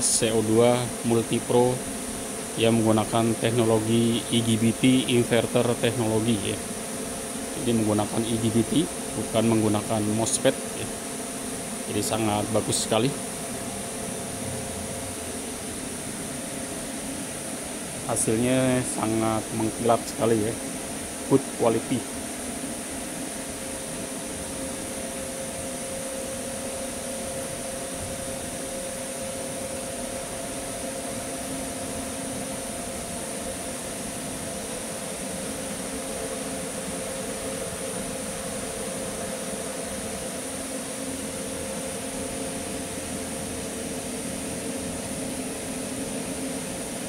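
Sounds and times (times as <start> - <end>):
faint high whine: 0.0 - 47.0
welding machine fan whirring: 0.0 - 47.0.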